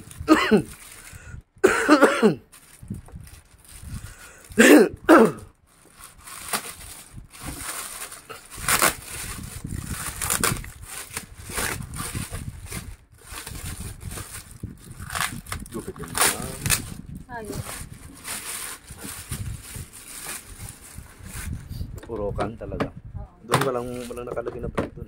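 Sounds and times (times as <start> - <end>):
plastic bag crinkling: 0.0 - 1.2, 2.4 - 4.8, 5.6 - 21.6, 23.7 - 24.3.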